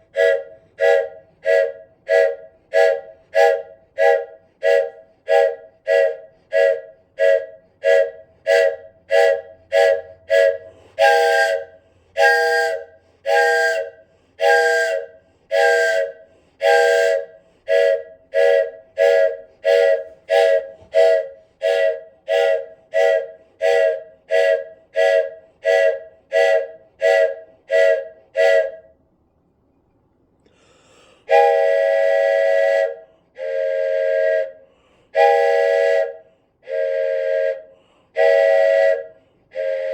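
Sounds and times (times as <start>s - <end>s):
wooden train whistle puffs: 0.0s - 29.0s, 30.6s - 39.9s.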